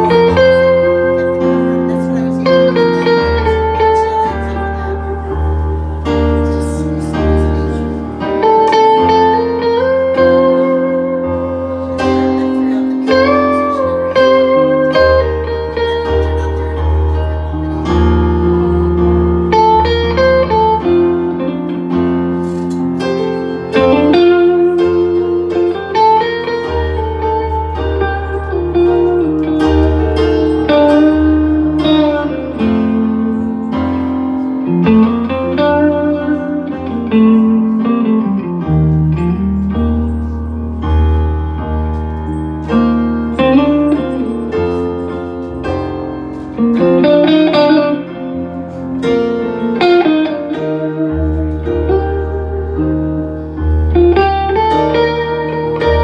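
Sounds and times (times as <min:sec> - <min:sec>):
electric guitar solo: 0:00.0 - 0:56.0.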